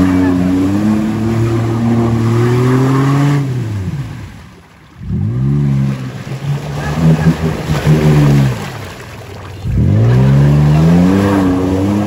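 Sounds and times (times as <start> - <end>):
off-road vehicle engine revving: 0.0 - 4.4, 5.0 - 12.0.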